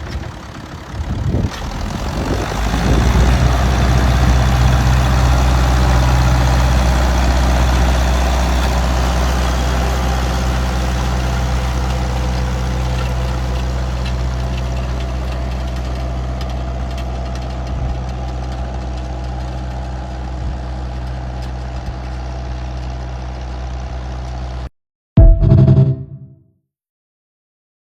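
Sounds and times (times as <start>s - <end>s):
tractor engine running: 0.0s - 24.5s.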